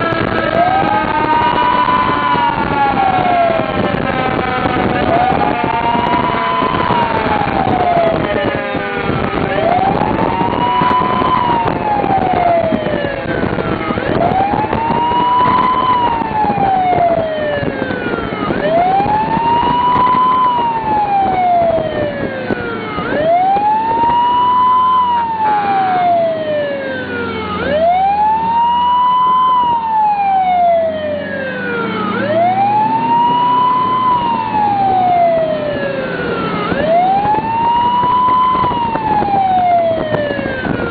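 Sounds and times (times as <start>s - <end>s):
emergency siren wailing: 0.0s - 40.9s.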